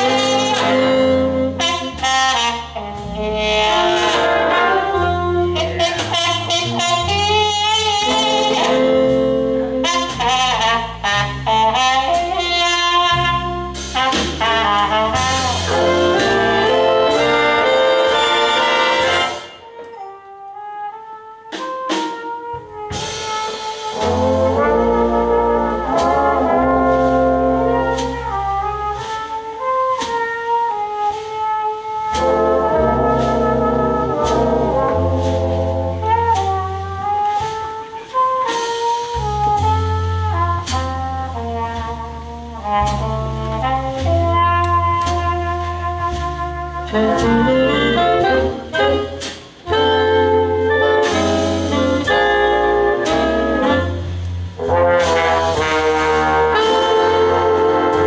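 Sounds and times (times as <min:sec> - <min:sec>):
walking bass line: 0:00.0 - 0:19.6, 0:21.6 - 0:58.0
brass and saxophone section: 0:00.0 - 0:58.0
drums: 0:00.0 - 0:58.0
trumpet: 0:00.0 - 0:58.0.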